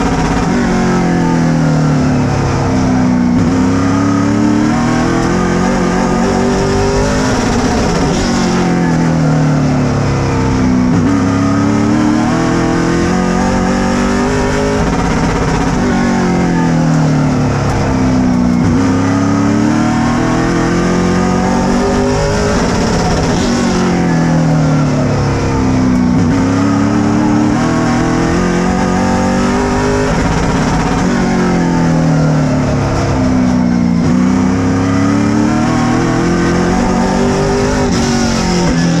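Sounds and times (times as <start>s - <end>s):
race car engine from cockpit: 0.0s - 39.0s.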